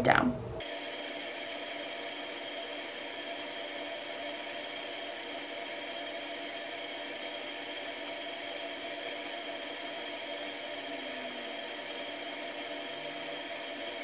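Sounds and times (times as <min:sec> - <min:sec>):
whirring machine hum: 0:00.0 - 0:14.0.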